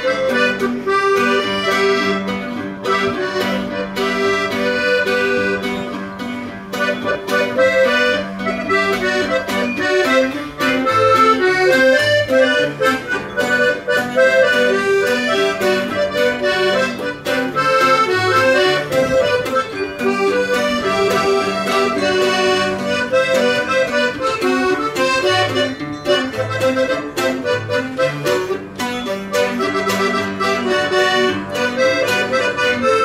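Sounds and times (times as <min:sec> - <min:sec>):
button accordion polka melody: 0:00.0 - 0:33.0
strummed guitar bass and chords: 0:00.0 - 0:33.0.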